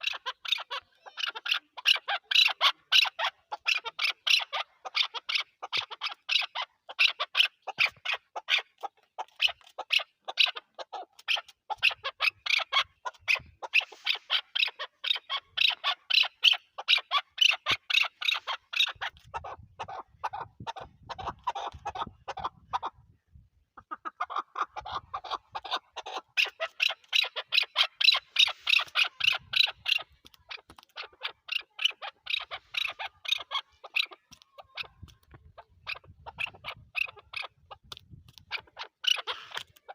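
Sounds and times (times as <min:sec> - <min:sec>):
partridge calling: 0:00.0 - 0:23.1, 0:23.8 - 0:39.9.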